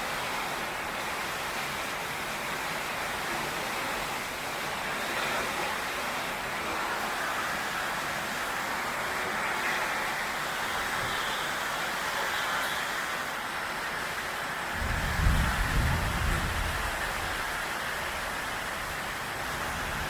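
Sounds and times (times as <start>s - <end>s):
heavy rain on a tin roof: 0.0s - 20.0s.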